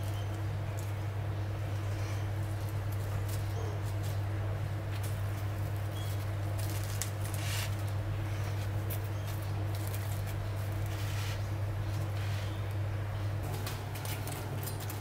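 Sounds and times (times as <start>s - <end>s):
hands rustling and squishing food: 0.0s - 15.0s
steady low hum: 0.0s - 15.0s.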